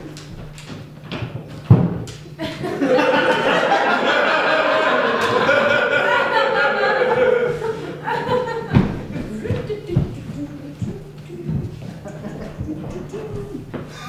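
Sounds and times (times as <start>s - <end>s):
audience laughing: 2.4s - 14.0s.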